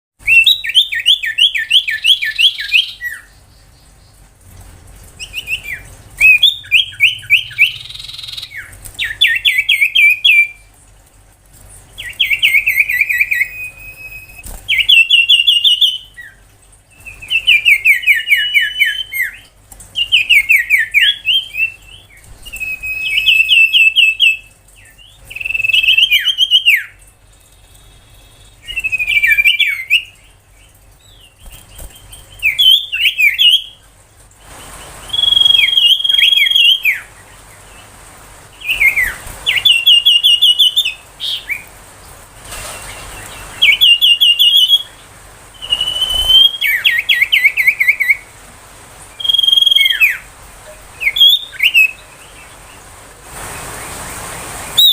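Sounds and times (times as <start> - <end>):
bird singing rapid repeated notes: 0.2 - 10.8, 11.7 - 34.0, 34.6 - 41.7, 42.8 - 48.3, 49.1 - 50.3, 51.0 - 52.9, 54.7 - 54.9.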